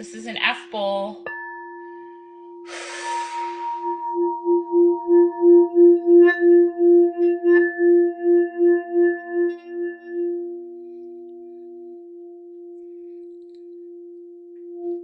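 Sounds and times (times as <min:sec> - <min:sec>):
crystal singing bowl ringing: 0:00.0 - 0:15.0.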